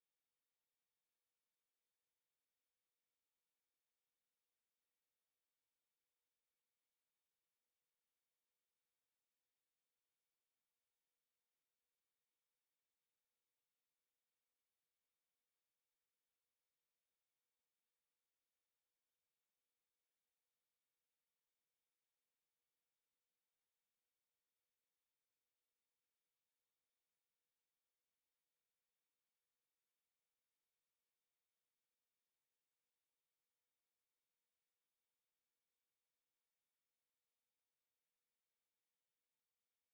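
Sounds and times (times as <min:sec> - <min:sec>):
high-pitched sine test tone: 0:00.0 - 0:39.9.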